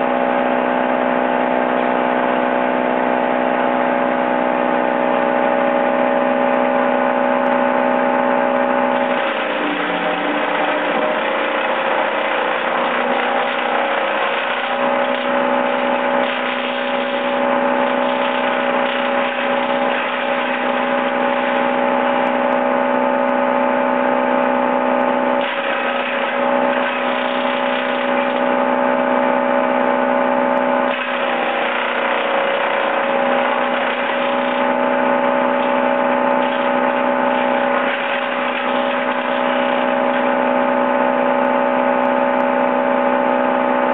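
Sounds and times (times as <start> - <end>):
chipper grinding branches: 0.0 - 43.9.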